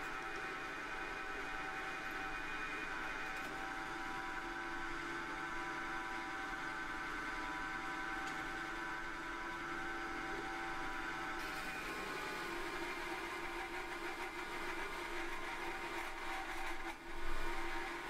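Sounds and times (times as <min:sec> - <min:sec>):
pillar drill motor hum: 0:00.0 - 0:18.0.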